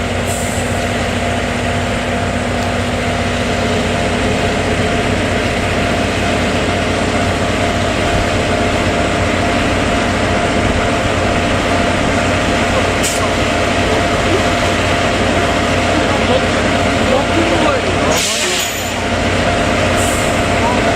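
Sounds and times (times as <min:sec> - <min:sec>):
diesel locomotive engine running: 0:00.0 - 0:20.9.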